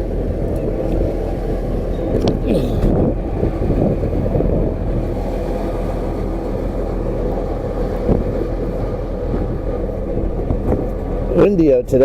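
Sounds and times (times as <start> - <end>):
wind noise: 0.0 - 12.0.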